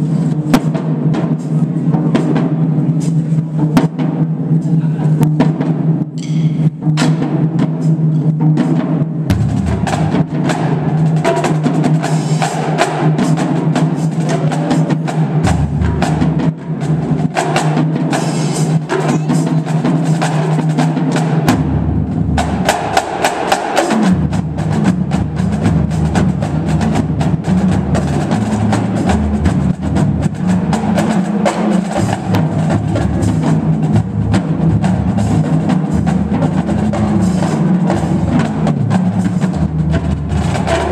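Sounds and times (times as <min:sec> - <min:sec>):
marching drumline: 0:00.0 - 0:40.9.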